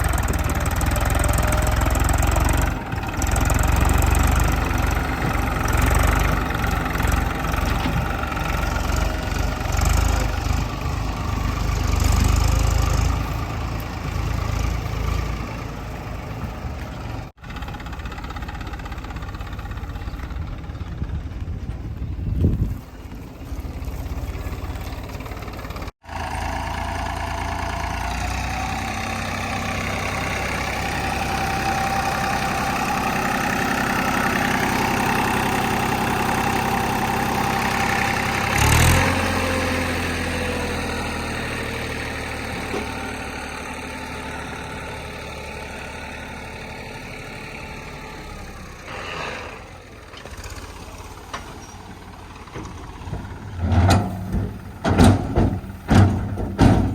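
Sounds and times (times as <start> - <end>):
diesel engine revving: 0.0 - 56.9.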